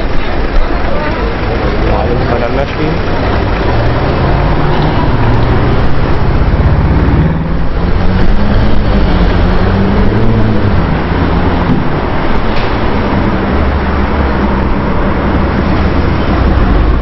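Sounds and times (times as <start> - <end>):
car engine revving: 1.2 - 17.0.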